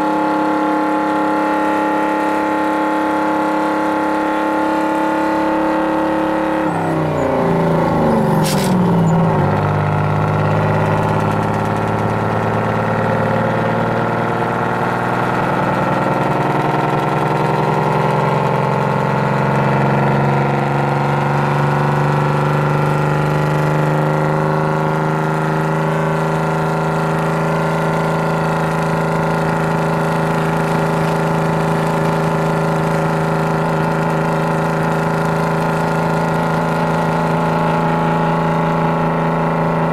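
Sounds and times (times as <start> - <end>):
diesel truck engine pulling uphill: 1.3 - 39.9.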